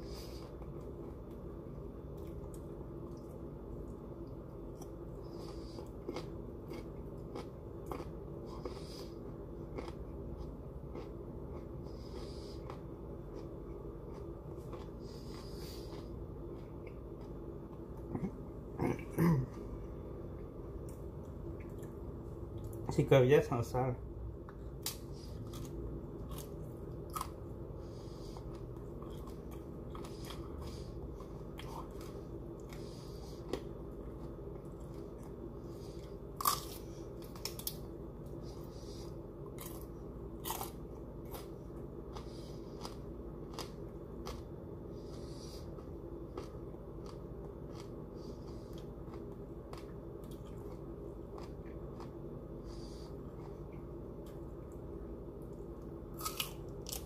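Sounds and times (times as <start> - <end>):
steady low hum: 0.0 - 57.0
crunchy vegetable being chewed: 4.7 - 19.8, 24.5 - 54.6, 56.1 - 57.0.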